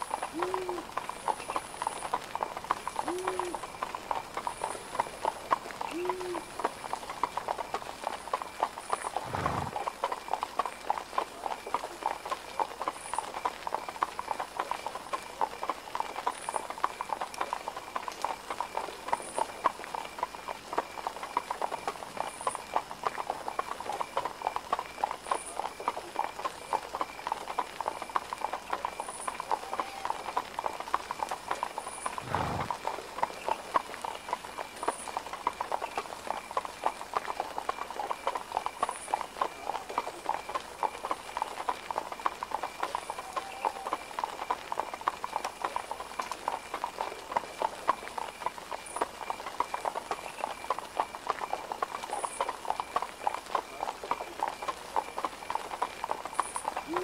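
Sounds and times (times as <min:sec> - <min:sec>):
horse hooves clip-clopping: 0:00.0 - 0:57.0.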